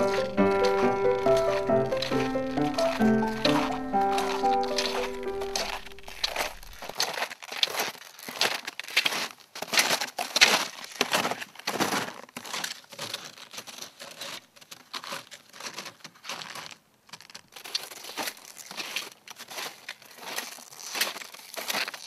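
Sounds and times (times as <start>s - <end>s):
footsteps crunching in snow: 0.0s - 22.0s.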